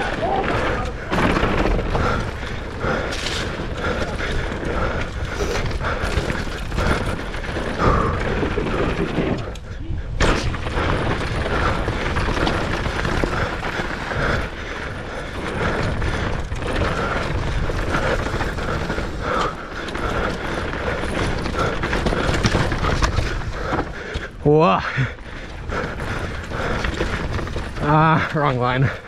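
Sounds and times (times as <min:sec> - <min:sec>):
chain and frame clatter: 0:00.0 - 0:24.4, 0:25.0 - 0:29.0
bike tyres on dirt: 0:00.0 - 0:29.0
heavy wind noise: 0:00.0 - 0:29.0.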